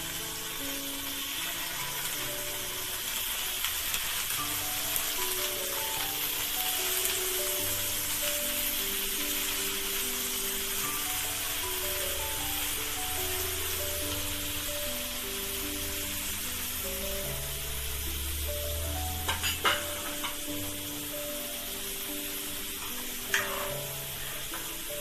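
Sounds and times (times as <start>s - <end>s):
food sizzling in oil: 0.0s - 25.0s
soft background music: 0.0s - 25.0s.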